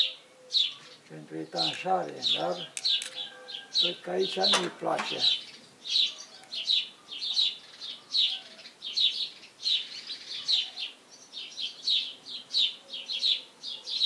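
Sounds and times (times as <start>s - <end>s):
swallows chirping: 0.0s - 14.0s.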